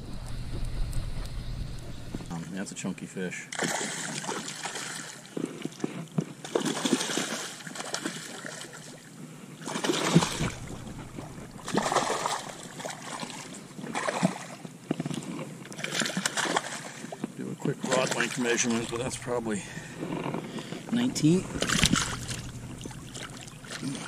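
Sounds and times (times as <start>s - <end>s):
shallow water splashing: 3.5s - 24.0s.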